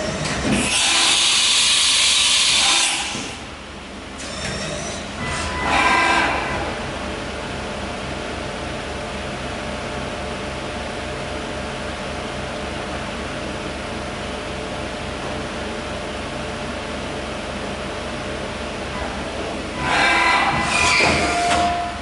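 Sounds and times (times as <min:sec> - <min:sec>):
machining center whirring: 0:00.0 - 0:22.0.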